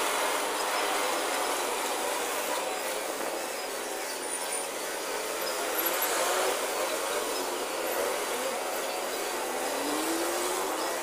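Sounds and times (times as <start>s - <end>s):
faint indistinct voices: 0.0s - 11.0s
outdoor background hiss: 0.0s - 11.0s.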